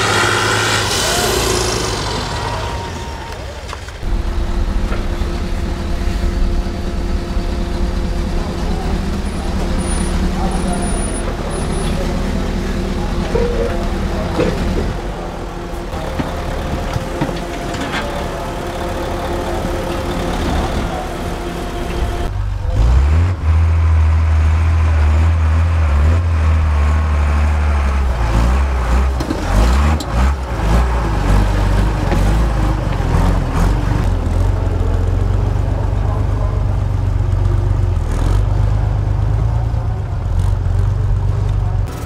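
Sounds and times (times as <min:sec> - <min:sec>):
truck engine running under load: 0:00.0 - 0:42.0.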